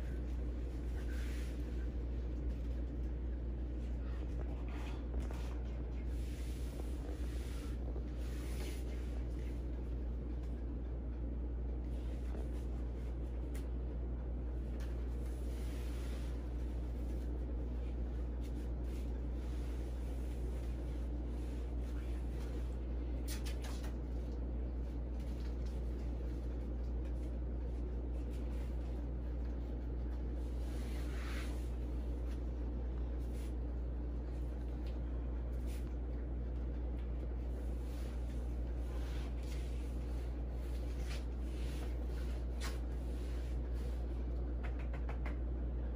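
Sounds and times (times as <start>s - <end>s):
faint scratches and rustles: 0.0s - 10.7s, 11.8s - 45.3s
steady low hum: 0.0s - 45.9s.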